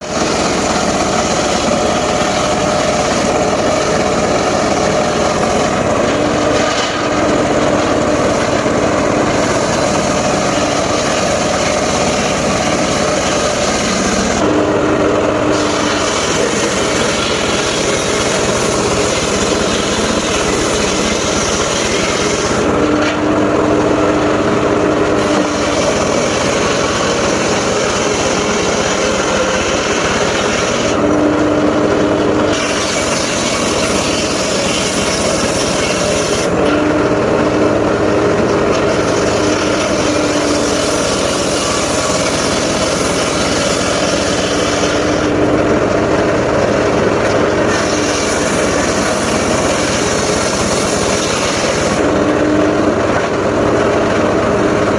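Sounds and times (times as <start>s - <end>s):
circular saw sawing wood: 0.0s - 54.9s
steady saw tone: 0.0s - 54.9s.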